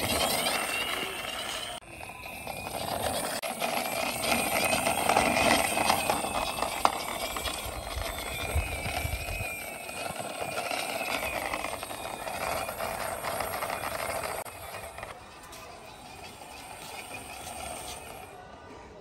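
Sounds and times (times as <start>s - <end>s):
toy car wheels rolling on concrete: 0.0s - 19.0s.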